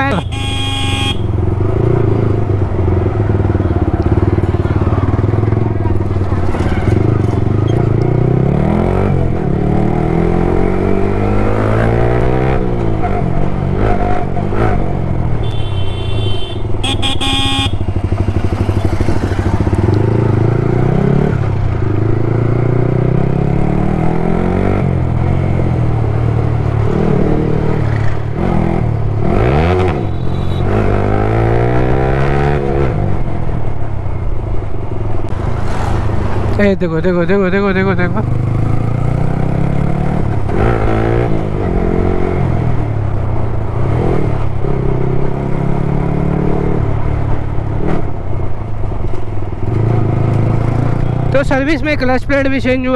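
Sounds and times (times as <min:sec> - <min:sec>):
motorcycle engine revving: 0:00.0 - 0:33.8, 0:35.2 - 0:52.0.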